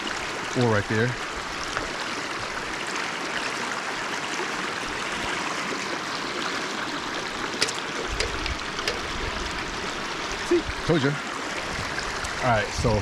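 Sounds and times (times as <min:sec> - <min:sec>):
river rushing over rocks: 0:01.2 - 0:12.9.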